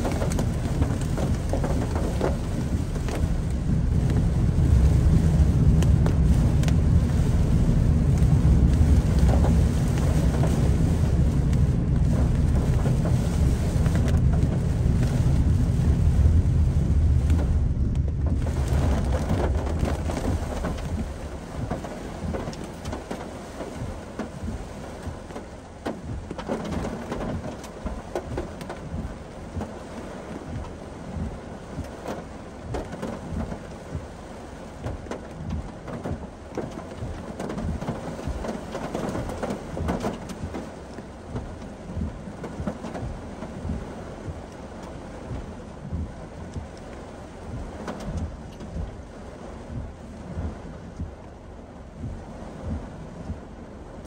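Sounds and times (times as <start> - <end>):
deep rumble: 0.0 - 54.0
heavy rain on car roof: 0.0 - 54.0.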